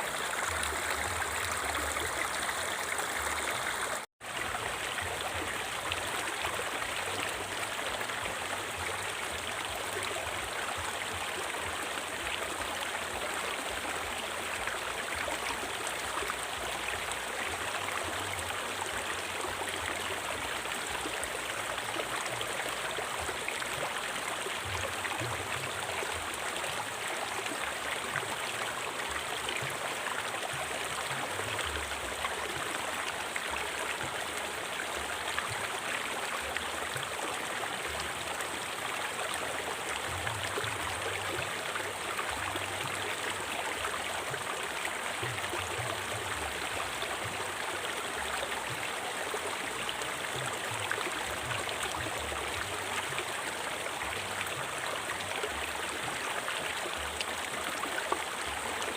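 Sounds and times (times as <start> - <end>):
river water flowing over rocks: 0.0 - 58.9.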